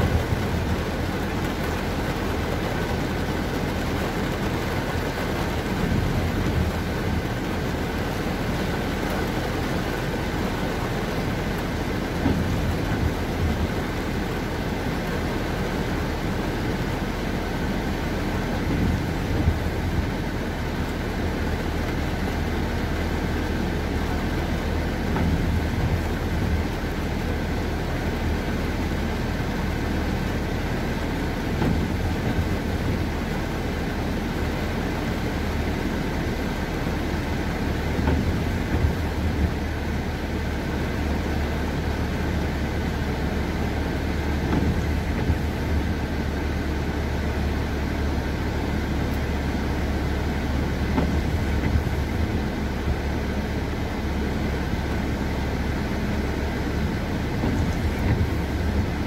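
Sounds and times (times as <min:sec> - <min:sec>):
car engine humming: 0:00.0 - 0:59.0
heavy rain on car roof: 0:00.0 - 0:59.0.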